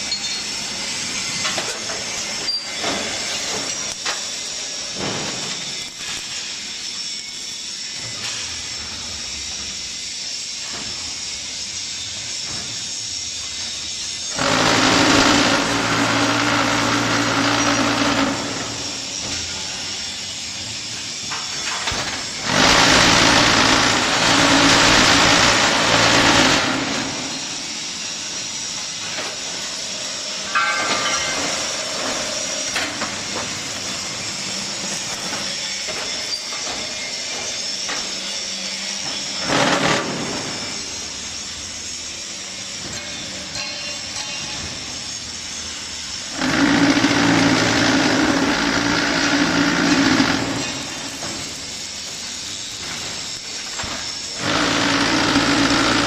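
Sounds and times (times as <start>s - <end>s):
block-making machine vibrating: 0.0s - 56.0s.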